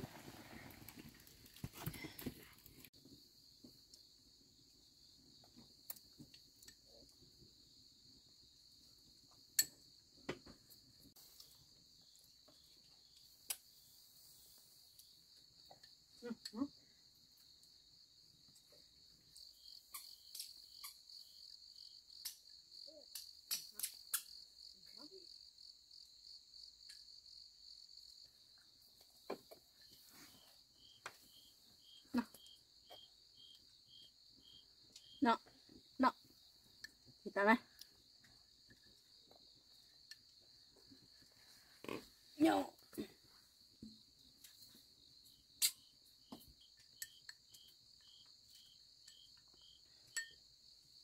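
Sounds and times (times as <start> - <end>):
insects chirring: 3.0 - 51.0.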